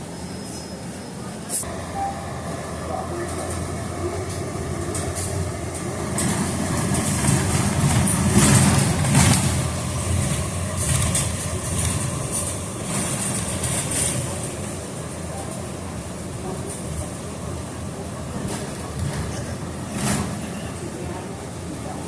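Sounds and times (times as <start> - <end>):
large vehicle low rumble: 0.0 - 22.0.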